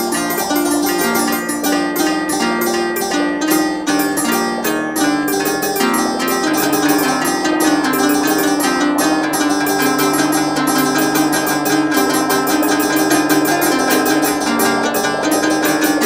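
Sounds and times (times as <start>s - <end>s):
plucked string instrument: 0.0s - 16.0s.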